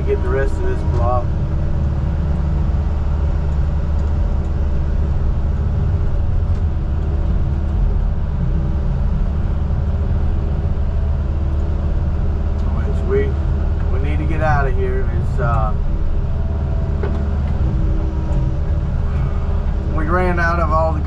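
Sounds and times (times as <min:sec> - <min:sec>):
vehicle engine drone: 0:00.0 - 0:21.0.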